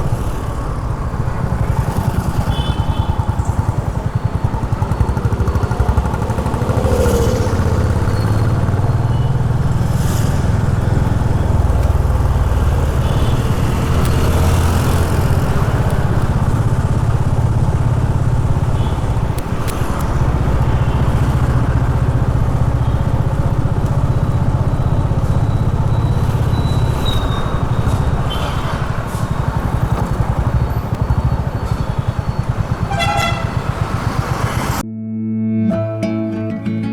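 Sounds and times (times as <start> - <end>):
motorcycle engine running: 0.0 - 34.8
vehicle horn: 1.9 - 34.8.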